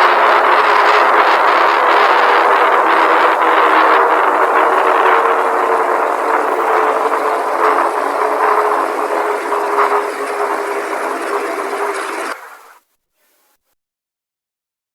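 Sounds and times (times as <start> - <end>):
emergency alert alarm: 0.0 - 12.4.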